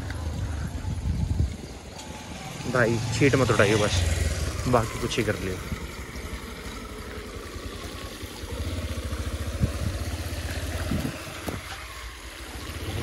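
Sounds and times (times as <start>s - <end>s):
traffic rumble: 0.0s - 13.0s
wind: 0.0s - 13.0s.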